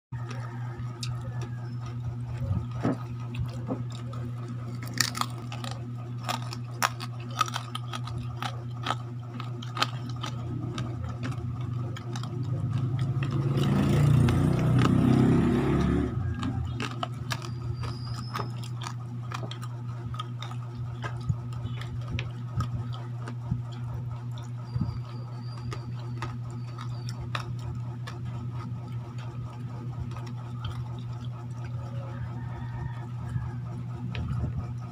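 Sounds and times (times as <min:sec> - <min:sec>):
fried pork skin crackling: 0:00.2 - 0:34.8
low hum: 0:00.2 - 0:34.9.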